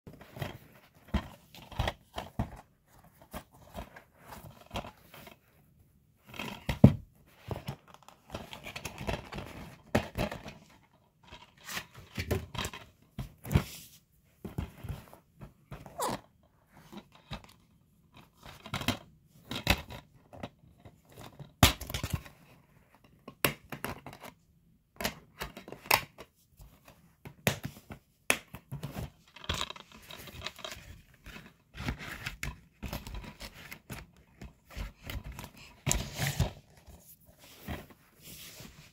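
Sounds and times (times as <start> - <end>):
plastic case rustling and scraping: 0.1 - 21.5, 28.6 - 38.9.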